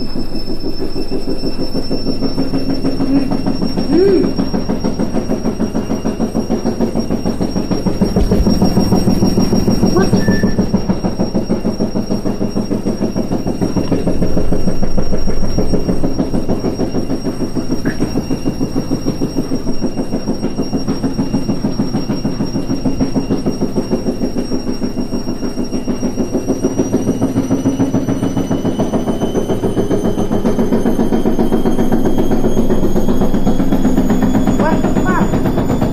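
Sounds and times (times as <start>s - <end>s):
faint high whine: 0.0s - 35.9s
washing machine rumbling clatter: 0.0s - 35.9s.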